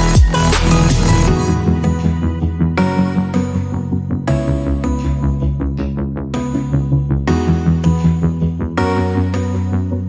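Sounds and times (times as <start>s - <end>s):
background music with sustained chords: 0.0s - 10.0s.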